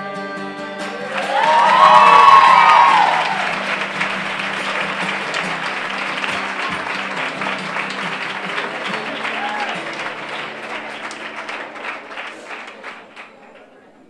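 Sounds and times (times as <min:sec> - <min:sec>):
acoustic guitar playing: 0:00.0 - 0:12.4
audience applauding: 0:00.8 - 0:14.0.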